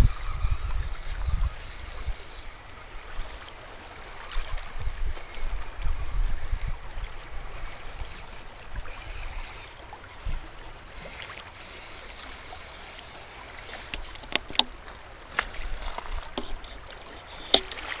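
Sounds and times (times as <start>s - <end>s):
waves lapping against rocks: 0.0s - 18.0s.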